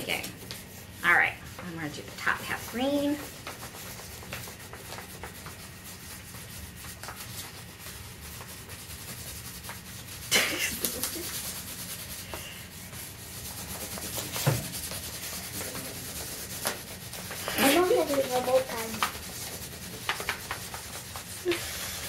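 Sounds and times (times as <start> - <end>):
crayons scribbling on paper plates: 0.0 - 22.0.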